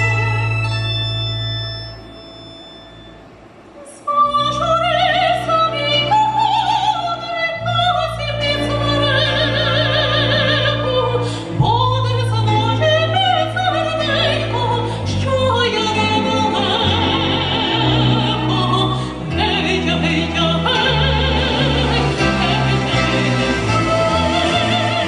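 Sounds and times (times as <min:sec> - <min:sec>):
folk instrument orchestra: 0:00.0 - 0:25.0
woman singing operatically: 0:03.8 - 0:25.0.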